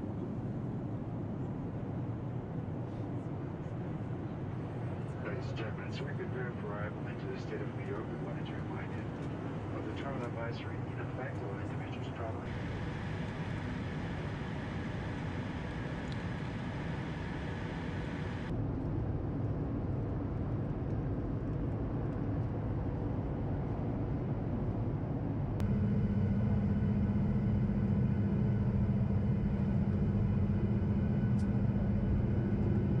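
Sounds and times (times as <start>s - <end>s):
airliner cabin engine noise: 0.0s - 33.0s
steady low hum: 0.0s - 33.0s.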